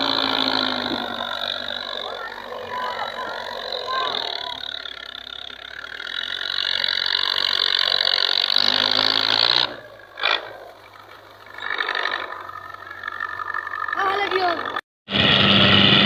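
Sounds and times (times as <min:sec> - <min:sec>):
tractor diesel engine labouring: 0:00.0 - 0:16.0.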